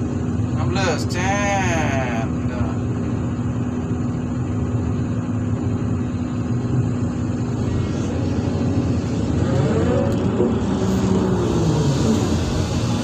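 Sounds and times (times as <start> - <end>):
excavator diesel engine running: 0.0 - 13.0
rising whine: 0.0 - 13.0.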